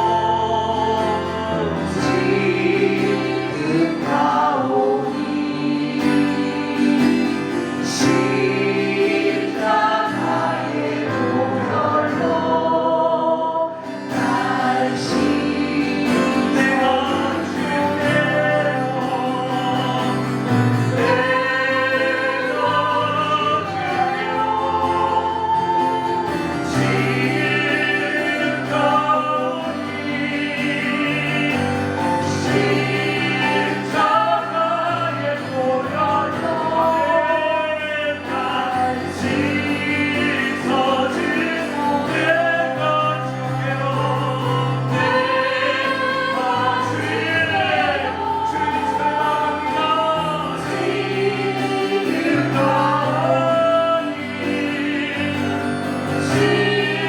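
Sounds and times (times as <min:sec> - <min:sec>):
voices singing a hymn: 0:00.0 - 0:57.0.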